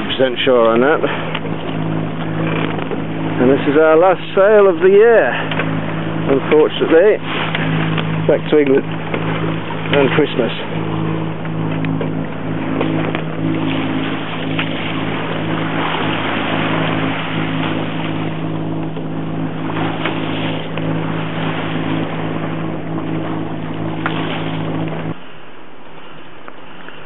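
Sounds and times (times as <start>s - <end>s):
boat engine humming: 0.0s - 27.0s
hiss of wind and water: 0.0s - 27.0s.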